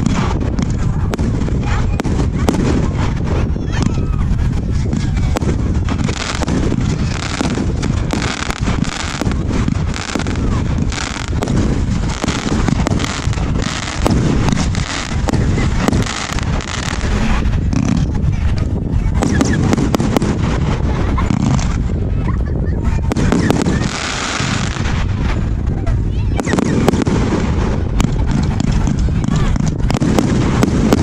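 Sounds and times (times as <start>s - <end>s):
fireworks bangs and crackles: 0.0s - 31.0s
low rumble: 0.0s - 31.0s.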